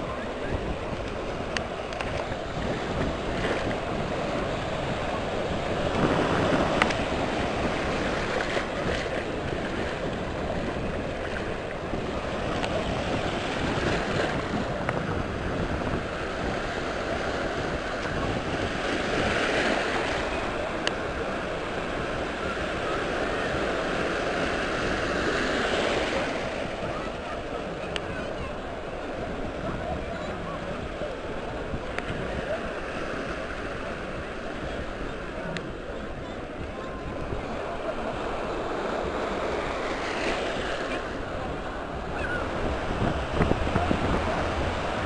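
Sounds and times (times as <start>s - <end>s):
small waves breaking: 0.0s - 45.0s
wind buffeting microphone: 0.0s - 45.0s.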